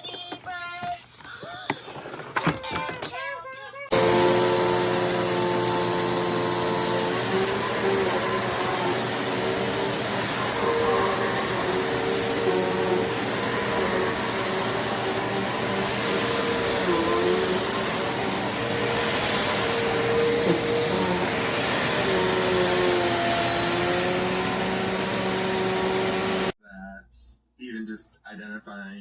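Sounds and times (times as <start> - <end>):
vacuum cleaner running: 0.3 - 3.1, 3.9 - 26.6.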